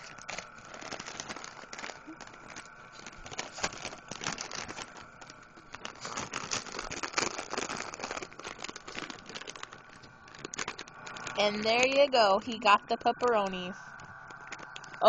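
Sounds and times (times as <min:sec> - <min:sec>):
dog tearing at plastic bag: 0:00.0 - 0:13.3, 0:14.2 - 0:15.0
plastic bag crinkling: 0:00.0 - 0:15.0.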